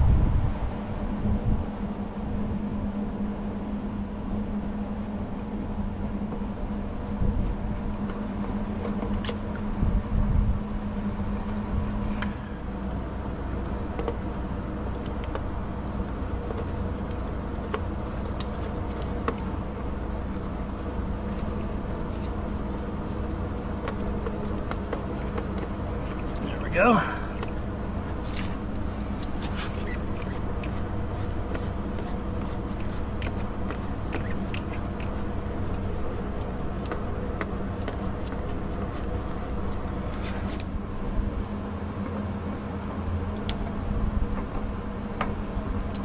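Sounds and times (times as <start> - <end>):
machine hum: 0.0 - 46.0.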